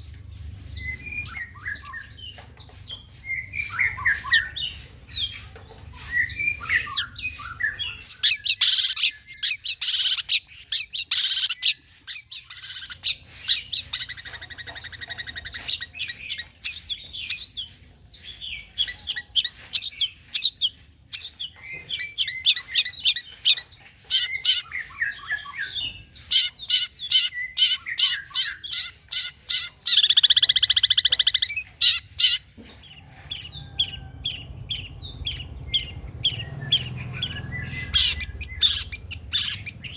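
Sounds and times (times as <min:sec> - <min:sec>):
shrike singing chirps and squawks: 0:00.4 - 0:02.4, 0:06.0 - 0:39.9.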